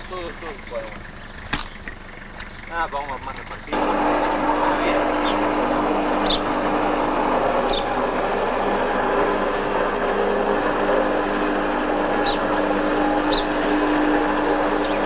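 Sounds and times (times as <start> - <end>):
electric hoist humming: 0.0 - 15.0.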